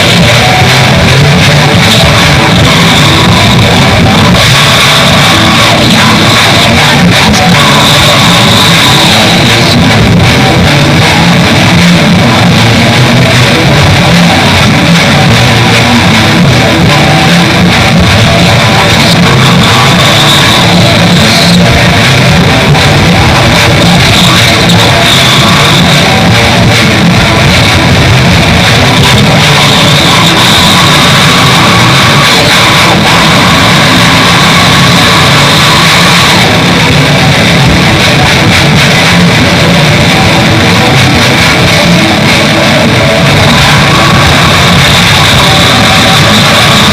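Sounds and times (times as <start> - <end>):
black metal band playing: 0.0 - 46.9.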